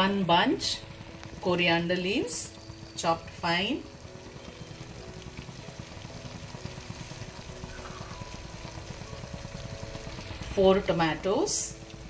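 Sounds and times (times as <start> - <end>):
meat sizzling in pressure cooker: 0.0 - 12.0.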